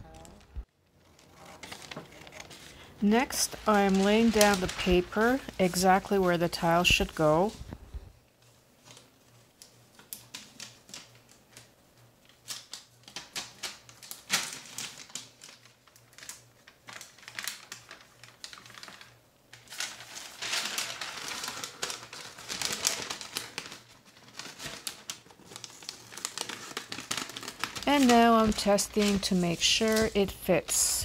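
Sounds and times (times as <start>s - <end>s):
paper rustling and crinkling: 0.0s - 31.0s.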